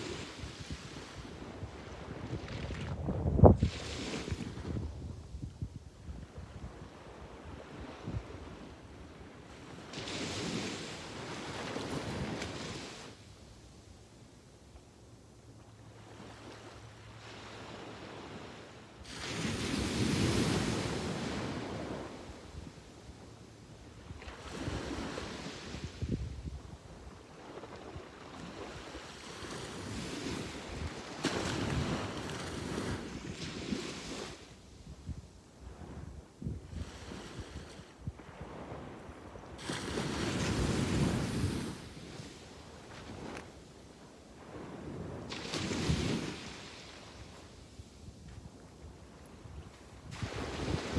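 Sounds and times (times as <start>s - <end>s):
sea waves breaking on beach: 0.0s - 4.9s, 6.7s - 13.2s, 15.9s - 34.7s, 36.6s - 50.9s.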